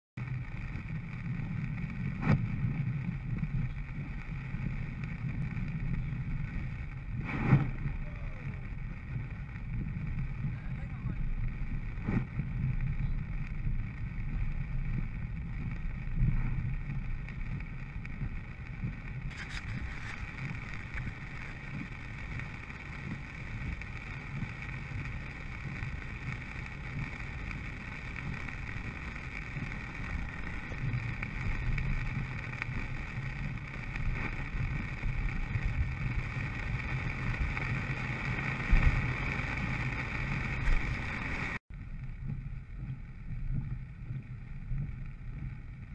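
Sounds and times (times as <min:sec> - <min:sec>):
low rumble: 0:00.2 - 0:45.9
rain on car roof: 0:00.2 - 0:45.9
tyre noise on wet road: 0:00.2 - 0:45.9.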